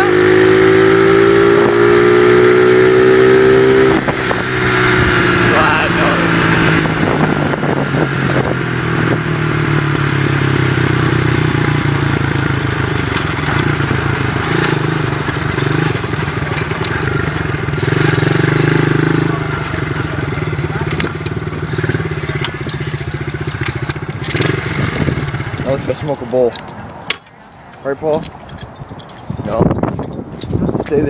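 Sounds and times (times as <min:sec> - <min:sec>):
dirt bike engine: 0:00.0 - 0:31.0.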